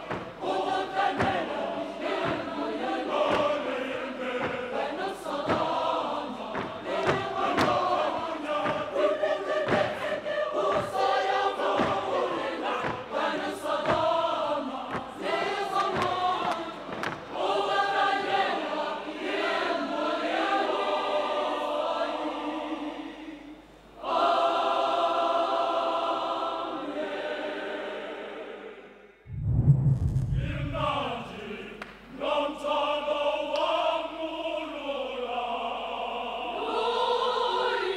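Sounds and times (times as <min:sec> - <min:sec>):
choir singing: 0:00.0 - 0:29.3, 0:30.3 - 0:37.9.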